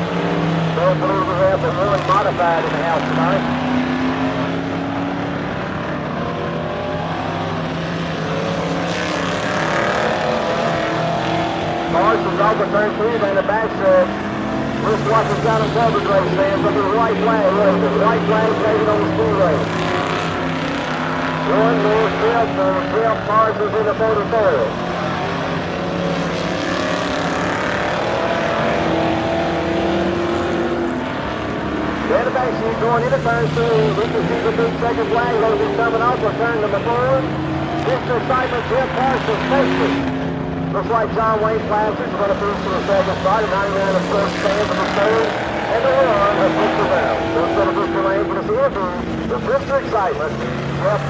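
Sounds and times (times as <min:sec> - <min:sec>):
race car engines droning: 0:00.0 - 0:51.0.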